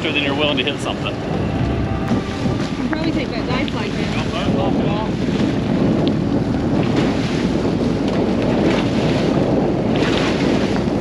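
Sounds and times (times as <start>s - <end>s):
water splashing against boat: 0.0s - 11.0s
wind buffeting microphone: 0.0s - 11.0s.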